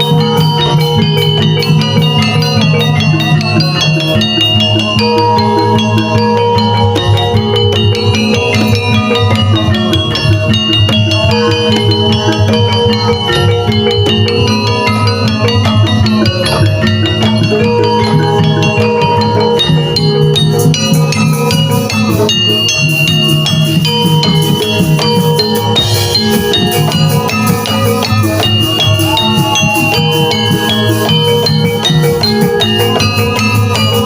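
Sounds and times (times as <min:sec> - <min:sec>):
drums: 0:00.0 - 0:34.0
gamelan music: 0:00.0 - 0:34.0.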